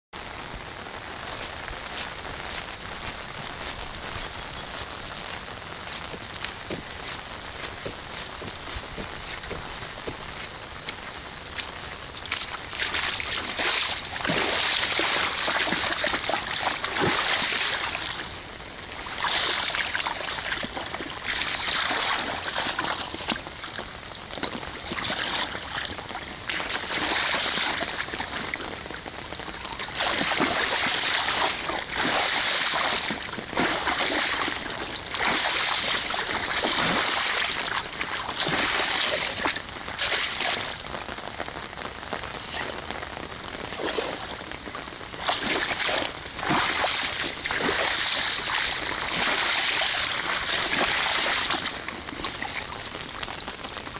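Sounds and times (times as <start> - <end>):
dog splashing in puddle: 3.2 - 40.8, 43.6 - 52.9.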